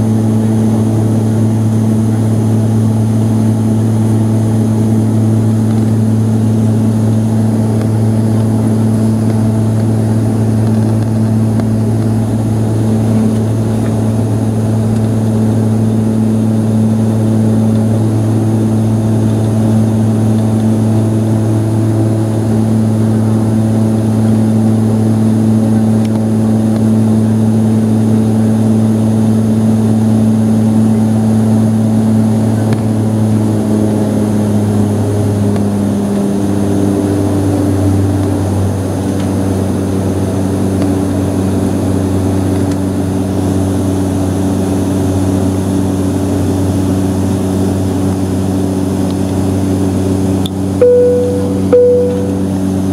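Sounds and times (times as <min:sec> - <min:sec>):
turboprop engines droning: 0:00.0 - 0:43.5, 0:47.5 - 0:52.9.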